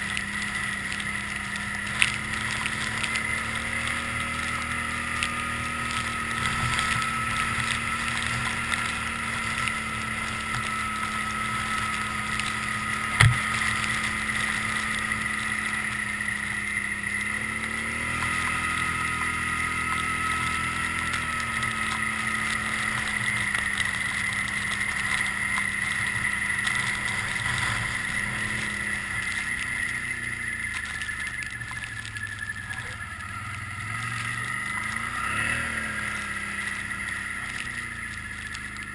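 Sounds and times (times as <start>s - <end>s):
atv engine running: 0.0s - 38.9s
high whine: 0.0s - 38.9s.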